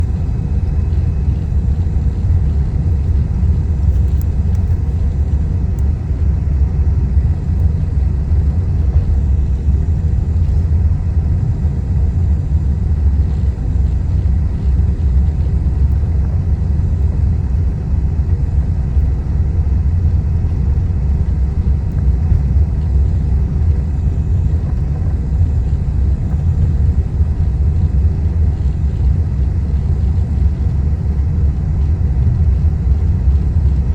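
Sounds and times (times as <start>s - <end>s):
faint steady tones: 0.0s - 31.9s
airliner taxiing rumble: 0.0s - 33.9s.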